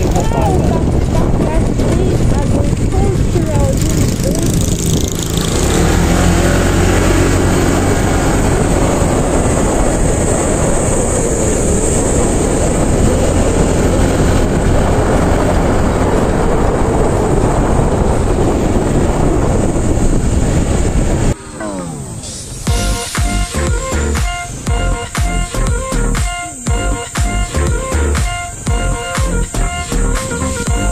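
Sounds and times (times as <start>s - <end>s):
moving vehicle rumble: 0.0s - 30.9s
wind rushing on microphone: 0.0s - 30.9s.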